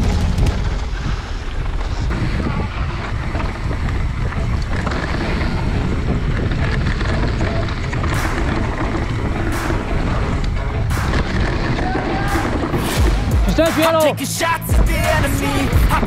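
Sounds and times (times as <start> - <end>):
wind buffeting microphone: 0.0 - 13.7
tyres rumbling over rough ground: 0.0 - 16.0.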